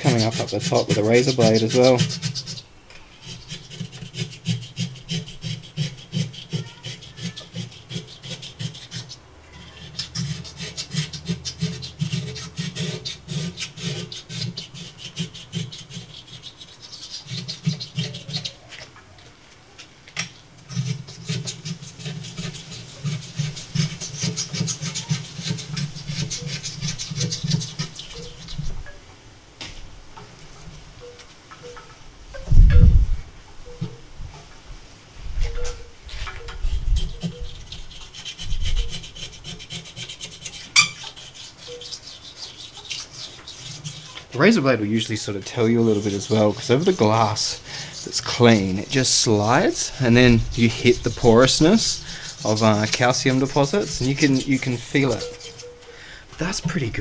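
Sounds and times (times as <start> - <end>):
razor blade scraping glass: 0.0 - 18.9, 20.2 - 28.8, 35.4 - 55.9.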